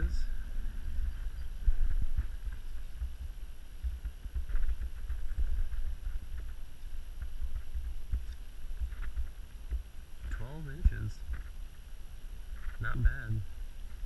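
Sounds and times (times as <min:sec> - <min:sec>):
faint rustles: 0:00.0 - 0:14.0
wind buffeting microphone: 0:00.0 - 0:14.0.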